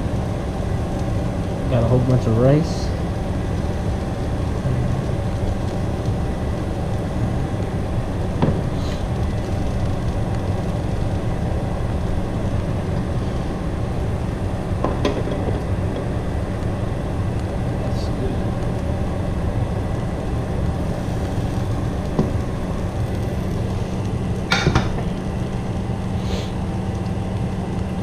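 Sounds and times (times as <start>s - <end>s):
ventilation fan humming: 0.0s - 28.0s.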